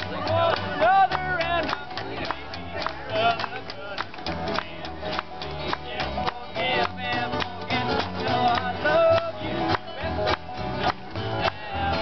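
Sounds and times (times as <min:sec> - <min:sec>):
acoustic guitars: 0:00.0 - 0:12.0
banjo: 0:00.0 - 0:12.0
plucked double bass: 0:00.0 - 0:12.0.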